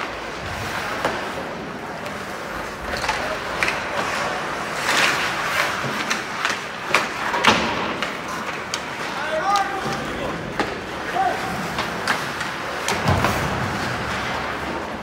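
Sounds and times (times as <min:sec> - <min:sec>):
hockey sticks and puck clacking: 0:00.0 - 0:15.0
skate blades scraping ice: 0:00.0 - 0:15.0.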